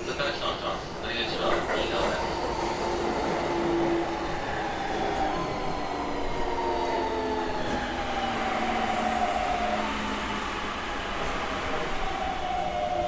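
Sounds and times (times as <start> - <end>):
train motors whining downward: 2.2 - 13.0.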